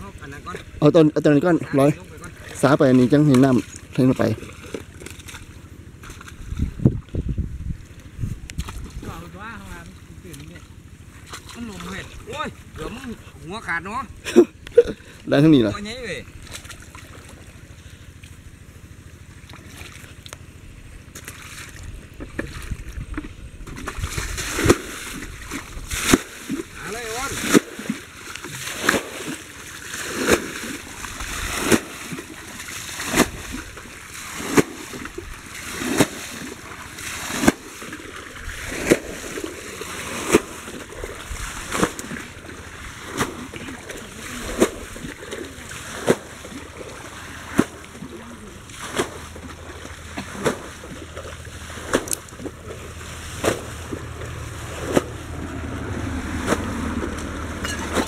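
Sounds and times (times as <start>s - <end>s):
muddy water splashing: 0.0s - 58.0s.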